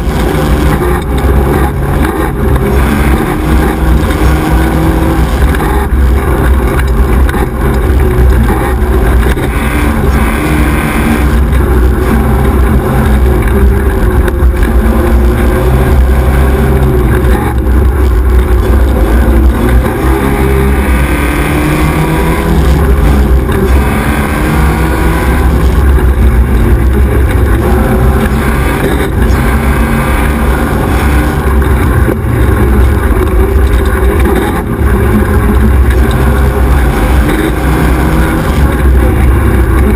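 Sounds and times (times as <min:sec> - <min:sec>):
buggy engine revving: 0:00.0 - 0:39.9.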